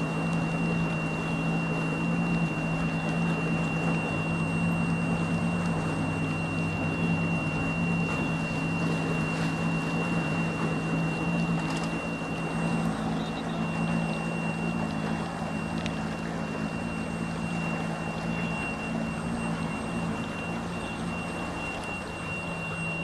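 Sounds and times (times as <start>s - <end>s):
outboard motor running: 0.0s - 23.0s
thin high whine: 0.0s - 23.0s.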